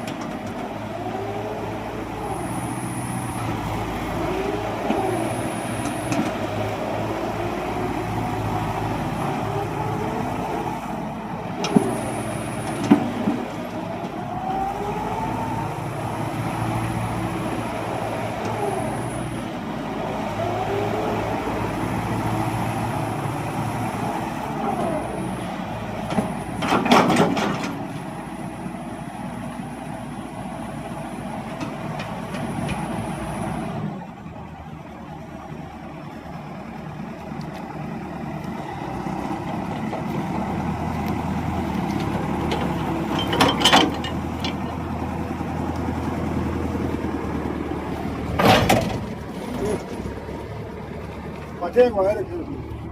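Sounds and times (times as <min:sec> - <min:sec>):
heavy machine engine running: 0:00.0 - 0:52.9.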